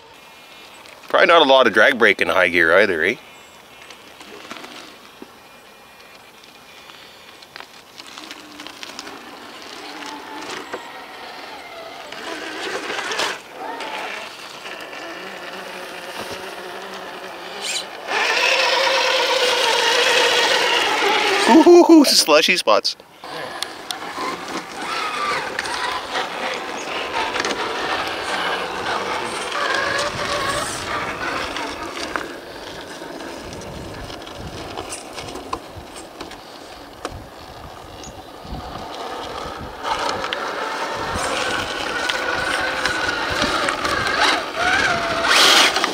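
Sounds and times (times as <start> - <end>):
rc truck motor whine: 2.4 - 21.7, 23.2 - 45.9.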